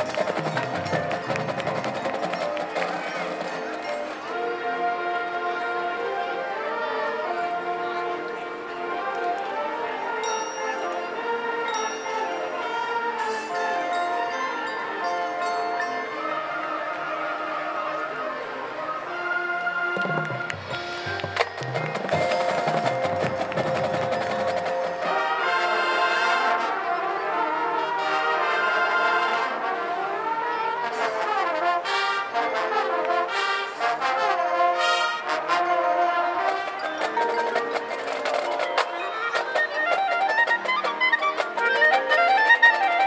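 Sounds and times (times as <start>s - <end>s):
percussion ensemble: 0.0s - 6.6s, 9.0s - 17.3s, 19.7s - 27.2s, 30.9s - 43.0s
marching band brass: 0.0s - 43.0s.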